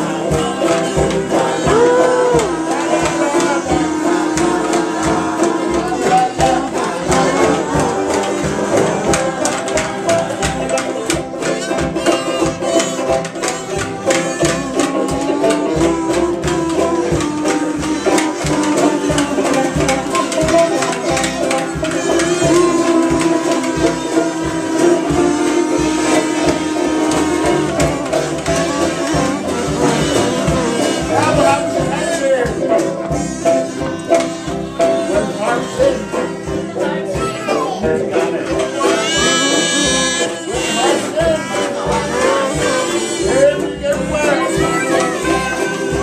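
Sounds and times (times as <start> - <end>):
kazoos buzzing: 0.0 - 36.7, 38.5 - 46.0
banjo strumming: 0.0 - 46.0
person singing: 0.0 - 46.0
ukuleles strumming: 0.0 - 46.0.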